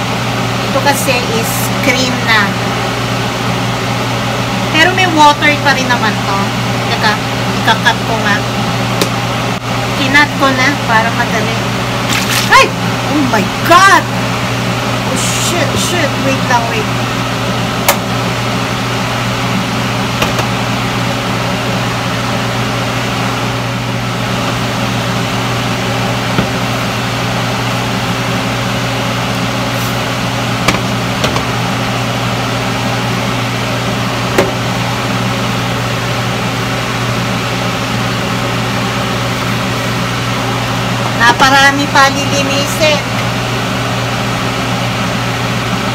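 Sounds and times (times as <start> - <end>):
fan hum: 0.0 - 45.9.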